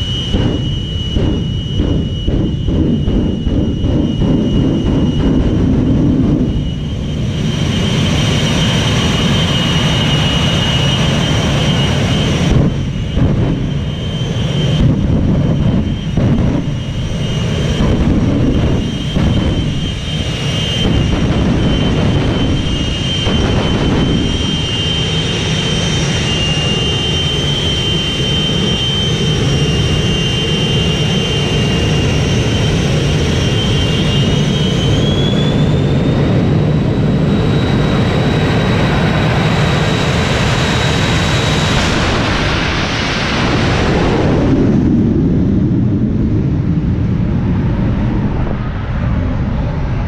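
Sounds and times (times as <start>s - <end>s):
broad jet roar: 0.0s - 50.0s
jet engines whining: 0.0s - 50.0s.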